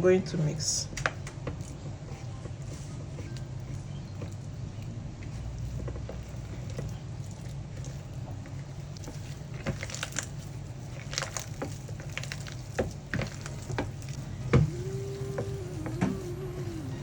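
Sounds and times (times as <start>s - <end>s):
dough squelching by hand: 0.0s - 17.0s
steady low hum: 0.0s - 17.0s.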